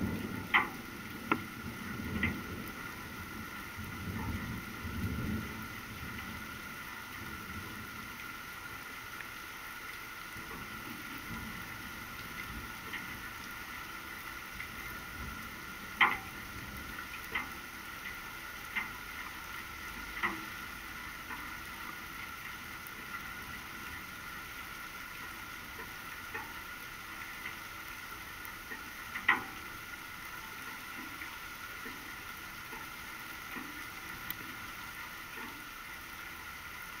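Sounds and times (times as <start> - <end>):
light rain falling: 0.0 - 37.0
raindrops tapping a surface: 0.0 - 37.0.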